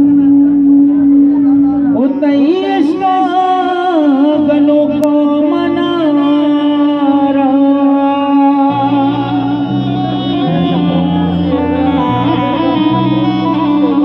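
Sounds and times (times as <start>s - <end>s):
held drone note: 0.0s - 14.0s
low accompaniment: 0.0s - 14.0s
man singing: 2.0s - 14.0s.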